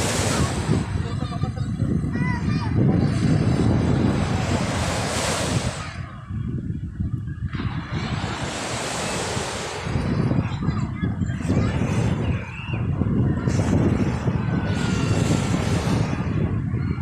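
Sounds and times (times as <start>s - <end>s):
sea waves washing ashore: 0.0s - 17.0s
wind rumble on microphone: 0.0s - 17.0s.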